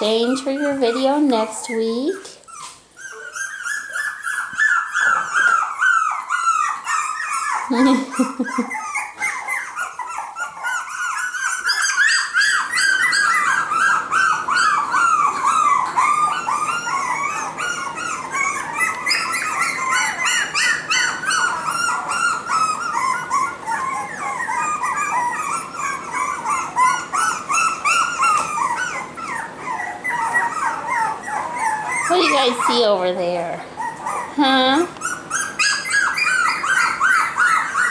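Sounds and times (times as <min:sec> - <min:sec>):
puppies yipping and whimpering: 0:00.0 - 0:37.9.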